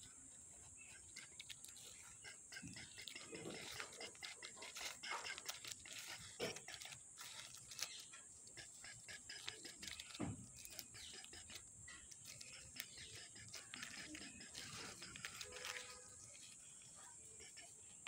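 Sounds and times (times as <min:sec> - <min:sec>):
plastic toys scraping on dirt: 0:00.7 - 0:18.0.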